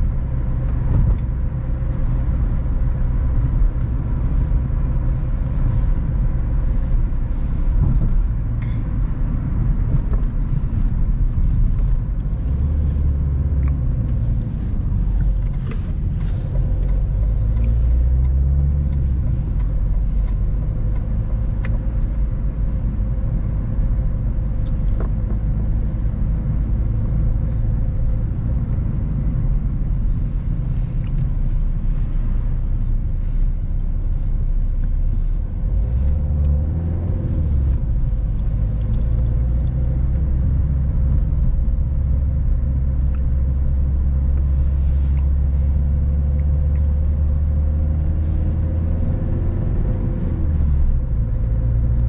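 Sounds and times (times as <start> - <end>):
car engine rumble: 0.0 - 52.0
road noise: 0.0 - 52.0.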